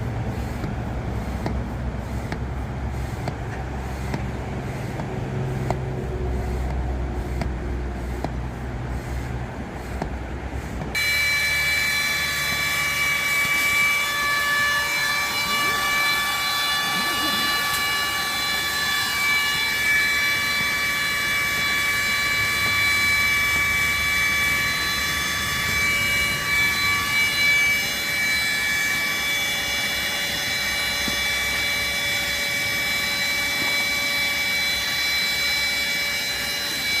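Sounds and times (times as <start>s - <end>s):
electric air pump whining: 0.0s - 37.0s.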